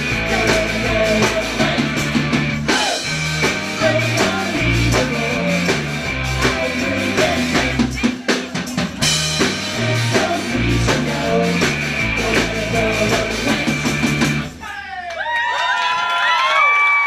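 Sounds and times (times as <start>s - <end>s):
bass and electric guitars: 0.0s - 14.6s
drum kit: 0.0s - 14.6s.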